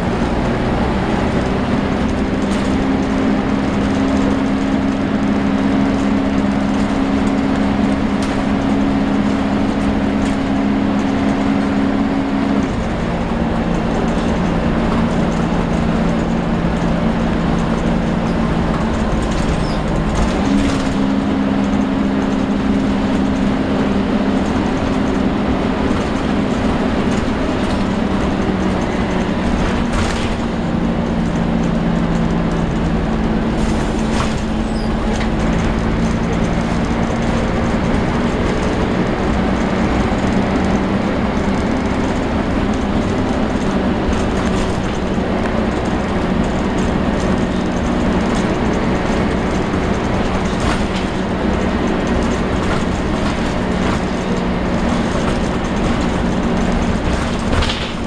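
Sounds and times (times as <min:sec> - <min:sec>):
bus engine hum: 0:00.0 - 0:58.0
road rumble: 0:00.0 - 0:58.0.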